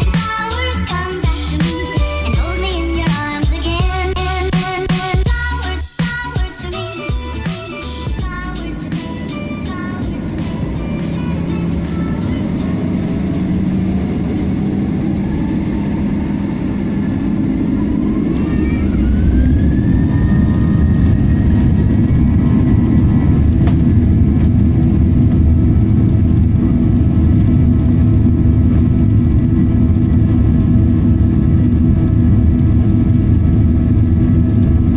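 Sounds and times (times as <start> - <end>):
jet engines spooling up: 0.0 - 34.9.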